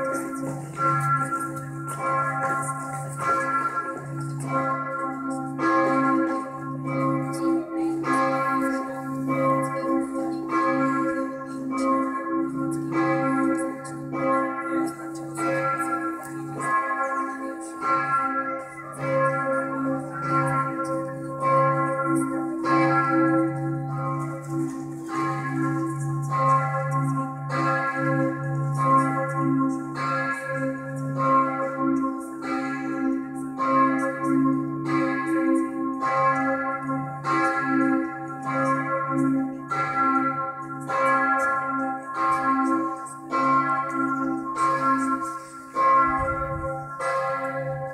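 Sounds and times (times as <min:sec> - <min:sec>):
church bells pealing: 0:00.0 - 0:47.9.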